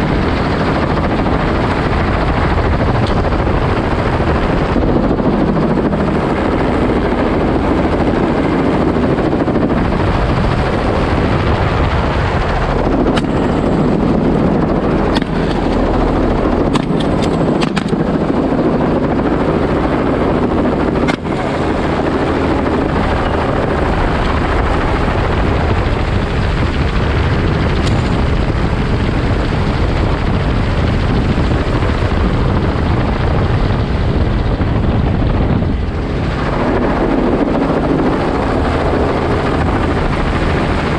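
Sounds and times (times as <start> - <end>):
helicopter rotor and engine: 0.0 - 40.9
wind rushing: 0.0 - 40.9.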